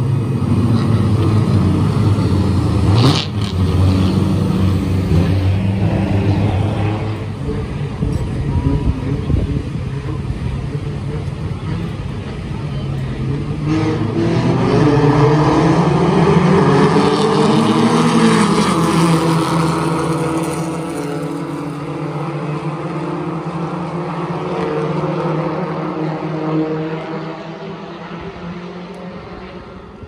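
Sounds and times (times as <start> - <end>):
race car engines passing: 0.0 - 30.0.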